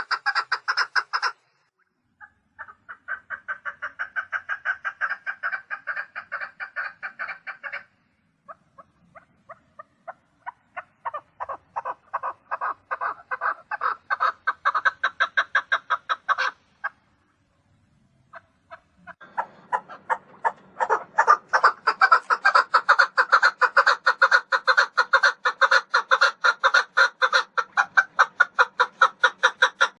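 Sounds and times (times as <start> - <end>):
partridge clucking calls: 0.0 - 1.5, 2.2 - 17.0, 18.3 - 30.0.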